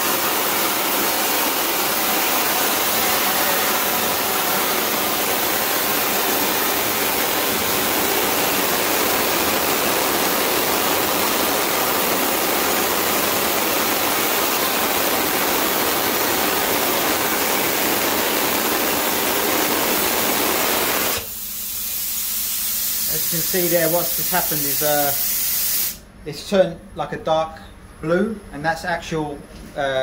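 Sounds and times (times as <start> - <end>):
spray gun flame hissing: 0.0 - 26.0.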